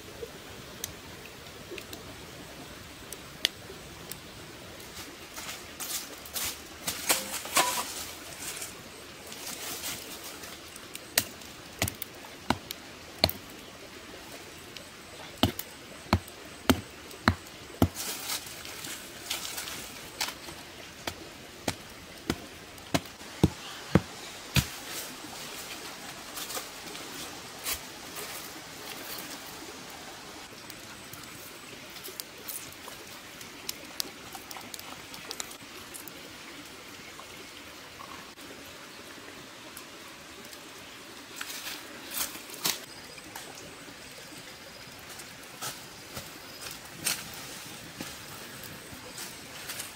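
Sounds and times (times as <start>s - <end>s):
campfire crackling: 0.2s - 37.2s, 39.5s - 49.9s.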